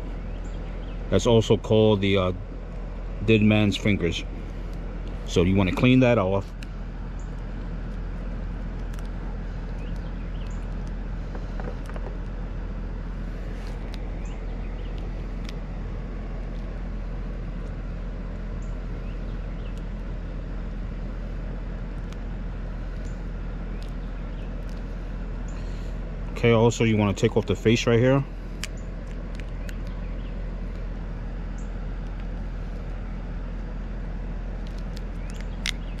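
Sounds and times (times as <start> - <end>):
mechanical hum: 0.0 - 36.0.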